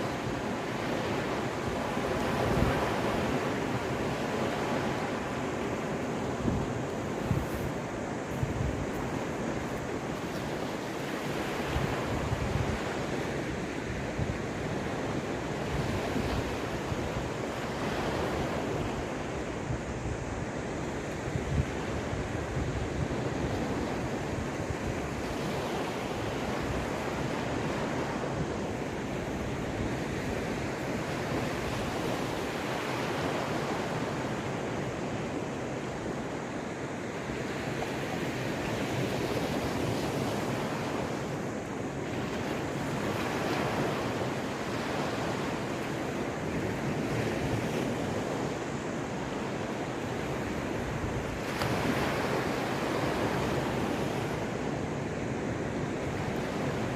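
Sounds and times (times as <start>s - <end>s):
waves breaking on shore: 0.0s - 56.9s
wind on microphone: 0.0s - 56.9s.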